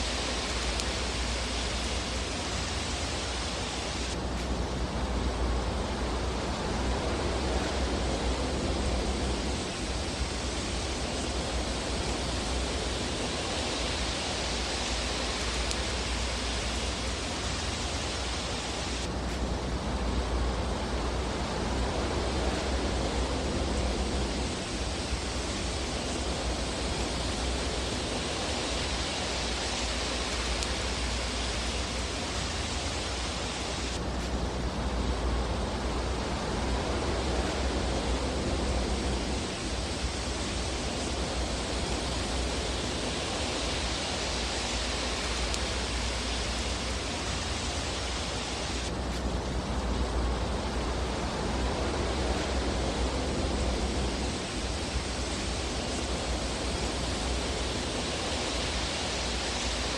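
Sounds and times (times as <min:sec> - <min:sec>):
fireplace fire hiss and rumble: 0:00.0 - 0:59.9.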